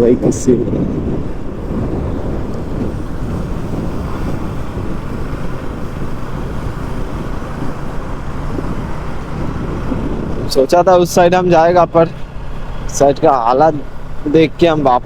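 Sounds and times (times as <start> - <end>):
wind on microphone: 0.0 - 15.0
motorcycle engine running: 0.7 - 15.0.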